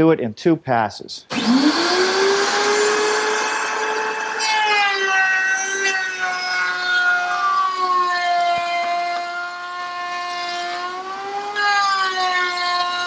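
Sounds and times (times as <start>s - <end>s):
router bit cutting wood: 1.3s - 13.0s
router motor whining: 1.3s - 13.0s.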